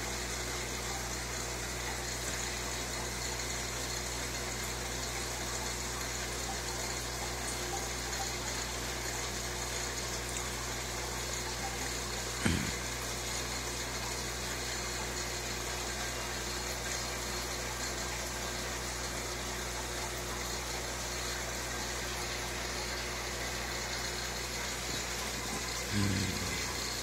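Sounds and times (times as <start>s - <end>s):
aquarium filter pump humming: 0.0s - 27.0s.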